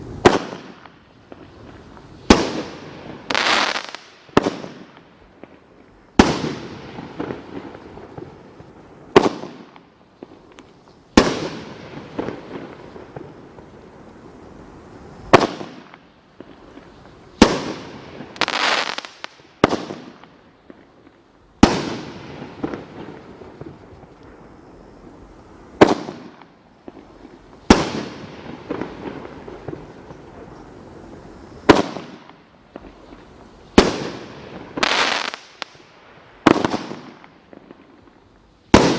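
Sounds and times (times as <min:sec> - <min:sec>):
firework bangs: 0:00.0 - 0:10.4, 0:11.1 - 0:20.8, 0:21.6 - 0:38.0, 0:38.7 - 0:38.9
firework crackling hissing tail: 0:00.0 - 0:38.9.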